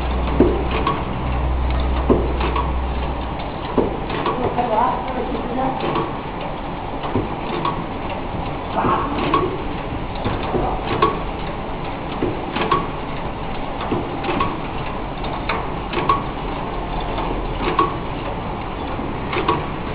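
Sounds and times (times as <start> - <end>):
light machine clicks: 0.0 - 5.2, 5.8 - 8.6, 9.2 - 19.8
machine clacking: 0.0 - 19.9.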